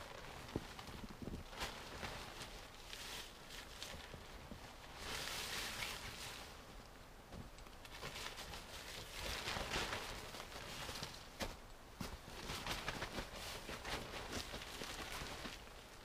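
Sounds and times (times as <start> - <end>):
tarp rustling: 0.0 - 6.8, 7.6 - 16.0.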